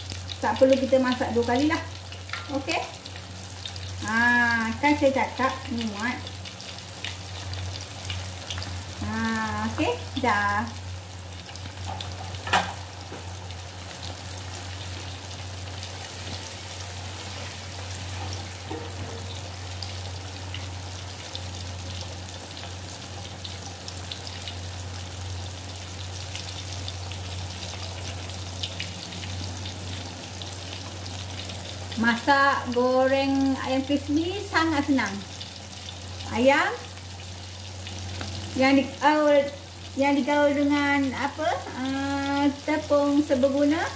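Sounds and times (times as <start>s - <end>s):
chicken deep-frying in oil: 0.0s - 43.9s.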